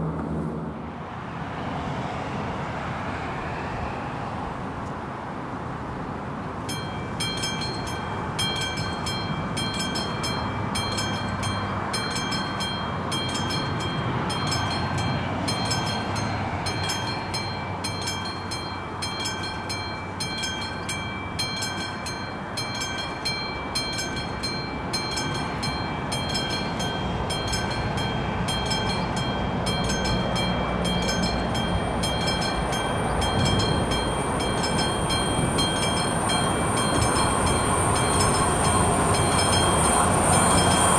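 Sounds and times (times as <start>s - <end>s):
train rumble: 0.0s - 40.9s
level-crossing warning bell ringing: 6.6s - 40.9s.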